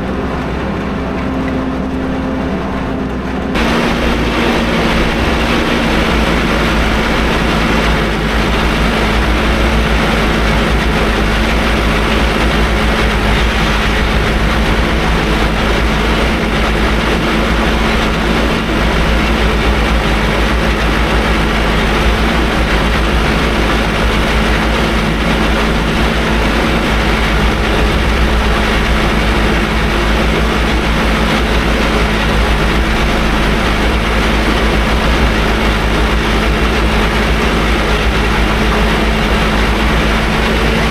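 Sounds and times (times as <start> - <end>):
tractor engine droning: 0.0 - 40.9.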